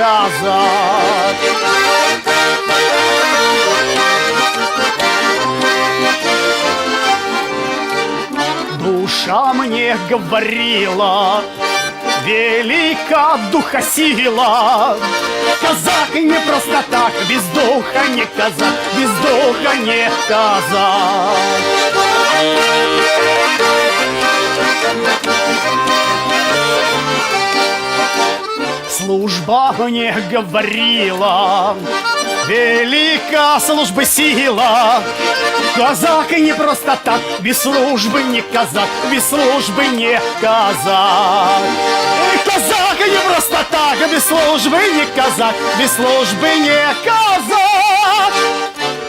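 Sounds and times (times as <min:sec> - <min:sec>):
accordion playing folk melody: 0:00.0 - 0:49.0.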